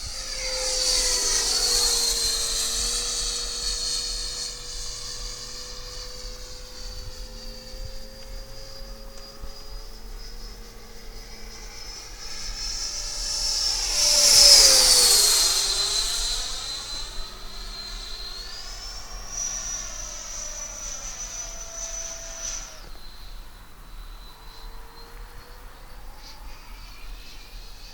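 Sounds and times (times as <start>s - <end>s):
model jet whining past: 0.0s - 27.9s.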